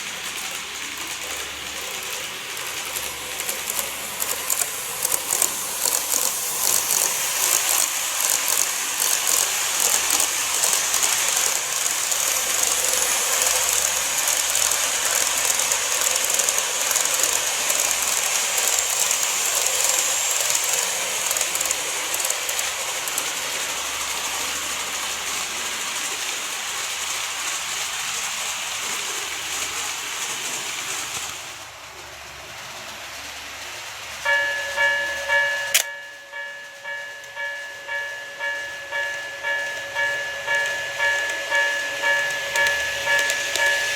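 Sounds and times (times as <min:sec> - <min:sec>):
model train running on track: 0:00.0 - 0:43.9.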